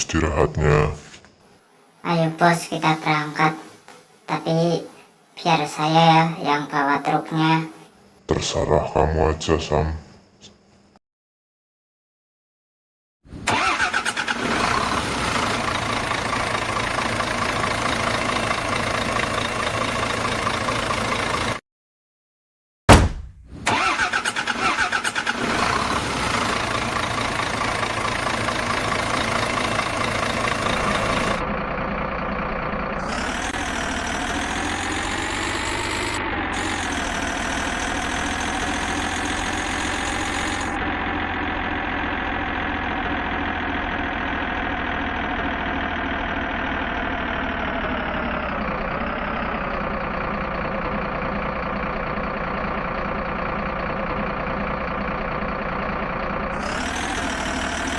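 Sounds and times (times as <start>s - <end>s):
truck engine starting and running: 0.0s - 9.1s, 13.3s - 21.6s, 22.9s - 57.9s.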